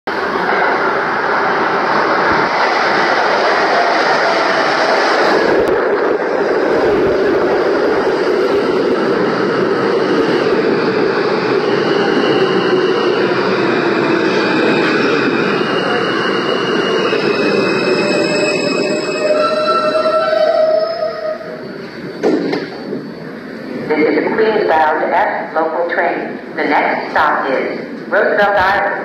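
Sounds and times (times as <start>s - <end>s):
subway train rumbling on rails: 0.0s - 29.0s.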